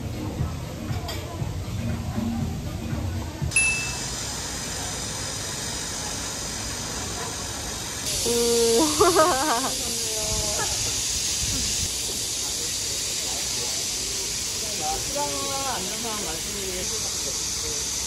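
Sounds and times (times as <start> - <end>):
steady hiss: 3.5 - 18.0.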